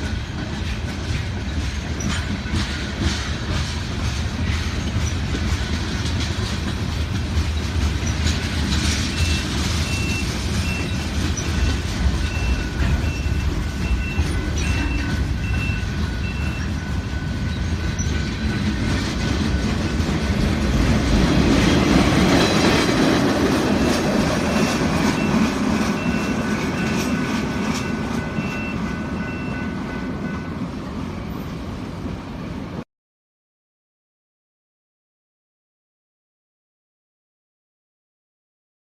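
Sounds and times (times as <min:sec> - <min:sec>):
freight train rolling on rails: 0:00.0 - 0:32.8.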